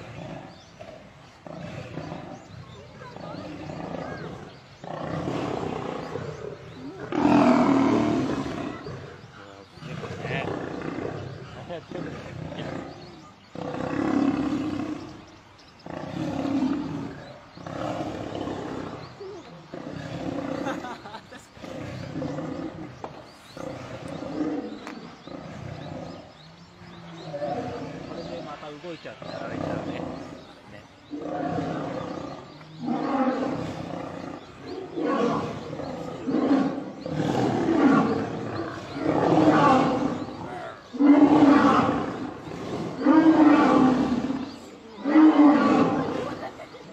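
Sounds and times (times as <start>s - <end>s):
lions growling: 0.0s - 46.9s.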